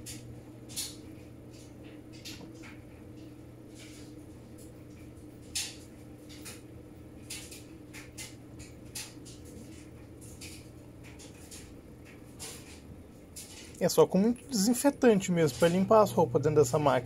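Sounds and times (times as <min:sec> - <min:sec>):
low steady hum: 0:00.0 - 0:17.0
water swishing in washing machine: 0:00.0 - 0:17.0.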